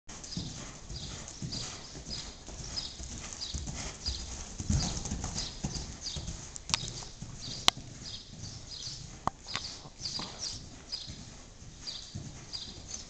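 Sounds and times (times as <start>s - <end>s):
hoofbeats on soft sand: 0.1s - 13.0s.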